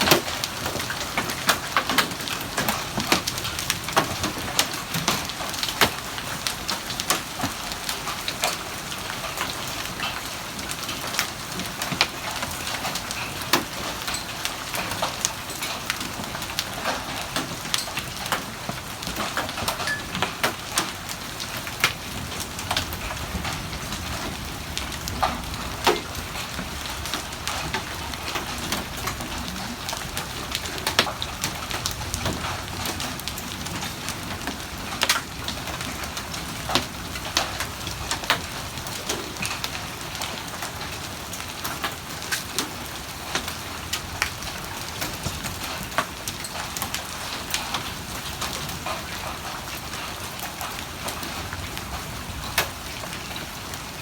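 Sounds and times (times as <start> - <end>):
heavy rain hissing: 0.0 - 46.2
hailstones striking: 0.0 - 48.8.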